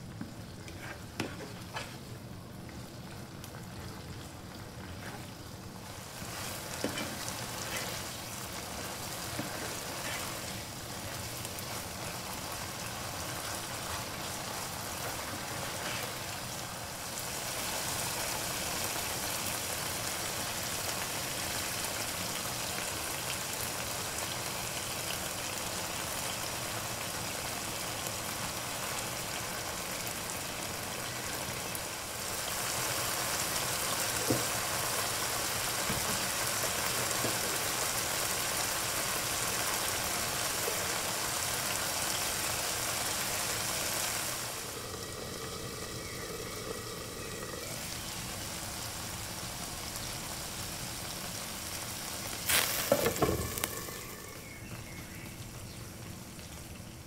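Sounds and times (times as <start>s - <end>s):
food sizzling in a wok: 4.4s - 57.0s.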